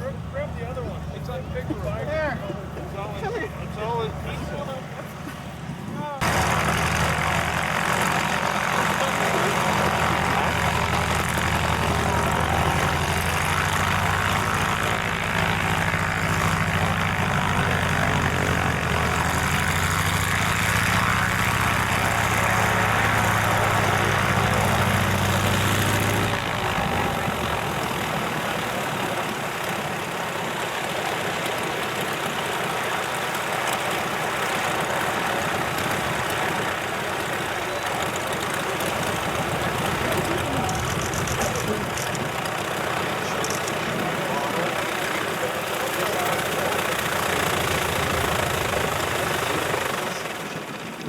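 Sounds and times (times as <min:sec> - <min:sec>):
constant wind-like hiss: 0:00.0 - 0:51.0
propeller aircraft engine idling: 0:00.0 - 0:51.0.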